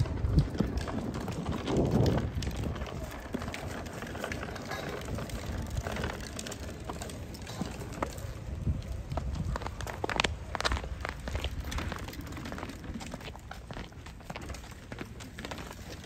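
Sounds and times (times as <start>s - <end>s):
footsteps on paved path: 0.0s - 16.0s
outdoor background noise: 0.0s - 16.0s.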